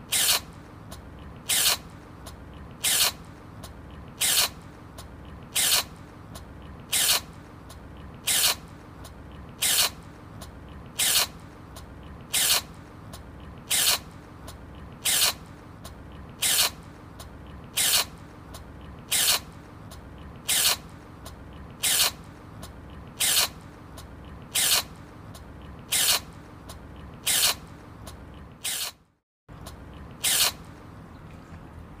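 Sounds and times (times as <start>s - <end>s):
low background noise: 0.0s - 28.6s, 29.5s - 32.0s.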